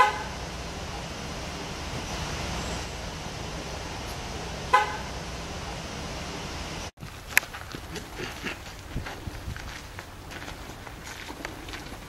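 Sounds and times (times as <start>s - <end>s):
street ambience: 0.0s - 12.0s.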